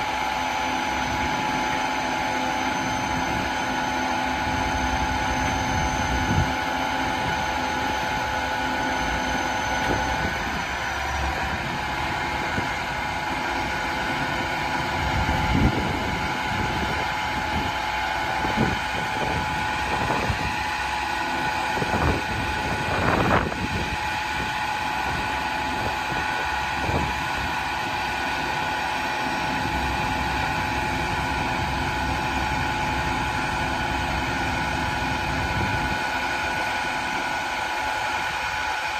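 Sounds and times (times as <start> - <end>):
diesel engine running: 0.0 - 38.9
hydraulic whine: 0.0 - 38.9.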